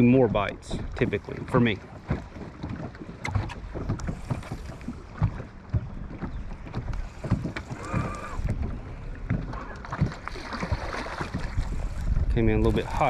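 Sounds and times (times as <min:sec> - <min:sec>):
knocks and thumps on boat: 0:00.0 - 0:13.0
wind on microphone: 0:00.0 - 0:13.0.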